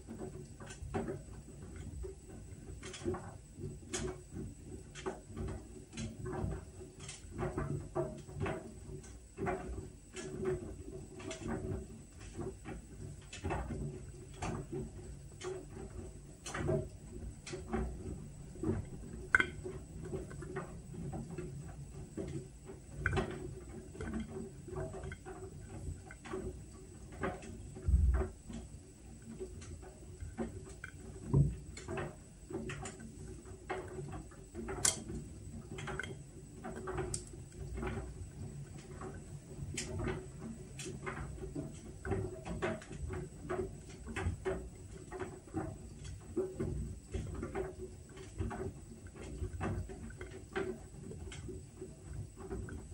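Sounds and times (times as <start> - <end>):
washing machine humming: 0.0 - 52.9
light clicks and ticks: 6.9 - 21.5, 22.1 - 52.9.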